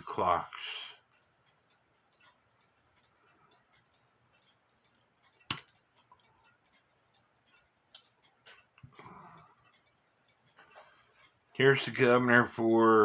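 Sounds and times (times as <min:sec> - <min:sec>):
small parts ticking on a surface: 0:00.3 - 0:12.4.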